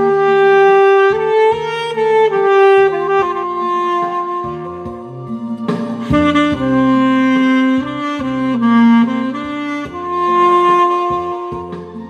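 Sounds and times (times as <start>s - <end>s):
backing accompaniment: 0.0s - 12.0s
saxophone slow melody: 0.0s - 12.0s.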